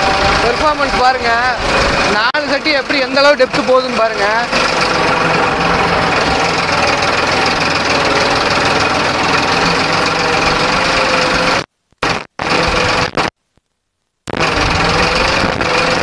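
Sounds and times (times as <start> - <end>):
tractor diesel engine running: 0.0 - 13.3, 14.3 - 16.0.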